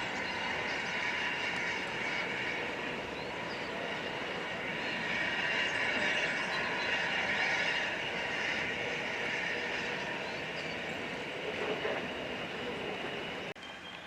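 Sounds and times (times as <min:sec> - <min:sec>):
train rushing: 0:00.0 - 0:13.9.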